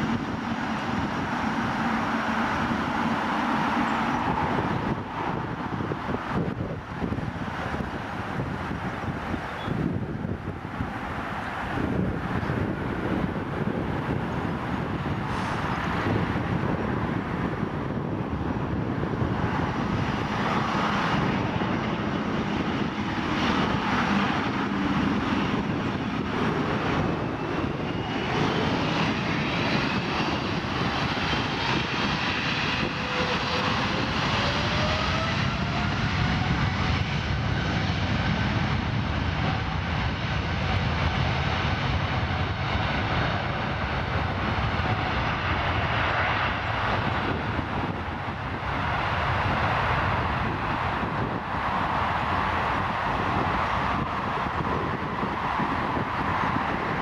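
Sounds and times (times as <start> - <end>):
jet engine whine rising: 0.0 - 57.0
jet engines running: 0.0 - 57.0.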